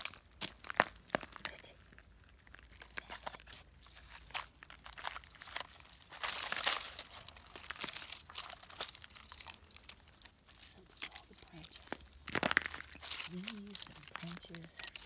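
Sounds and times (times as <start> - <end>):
dog crunching twigs and leaves: 0.0 - 15.0.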